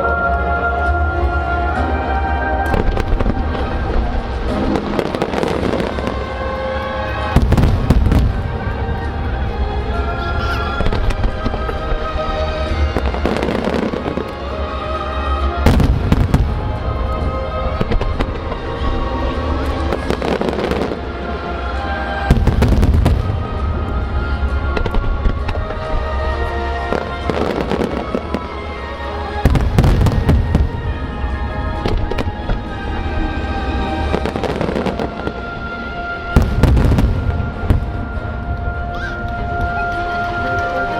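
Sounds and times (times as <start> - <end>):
music playing: 0.0 - 40.9
aerial fireworks bursting: 2.7 - 14.5, 15.6 - 21.2, 22.3 - 38.6.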